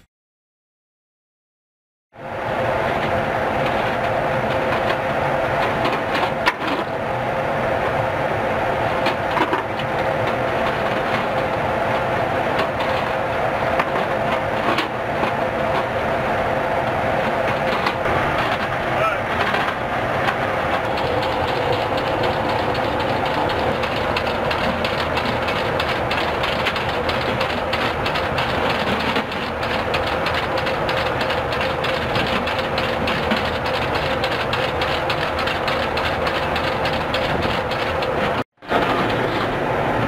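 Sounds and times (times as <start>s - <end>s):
machinery drone: 2.2s - 40.0s.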